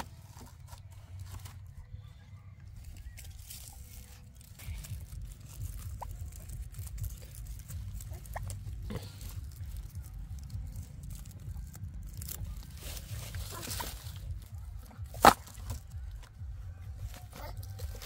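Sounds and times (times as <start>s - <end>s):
sugarcane stalks rustling: 0.0s - 2.0s, 2.6s - 18.0s.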